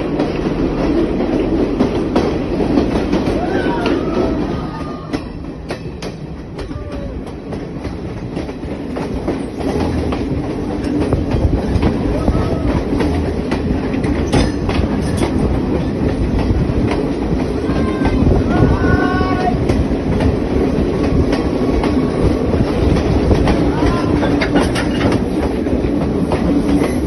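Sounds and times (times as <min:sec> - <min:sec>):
train wheels rumbling: 0:00.0 - 0:27.0
wheels clacking over rails: 0:00.0 - 0:27.0.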